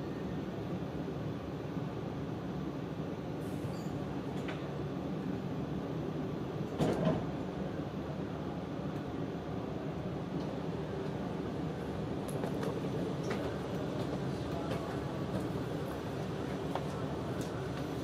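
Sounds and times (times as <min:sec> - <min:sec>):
train car ventilation hum: 0:00.0 - 0:18.0.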